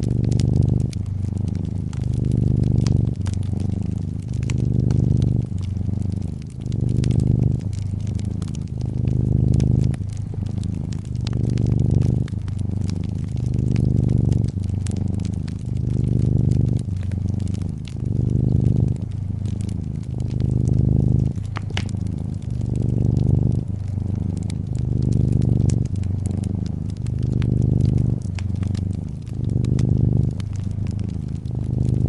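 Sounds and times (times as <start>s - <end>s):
cat purring: 0.0s - 32.0s
fireplace fire crackling: 0.0s - 32.0s.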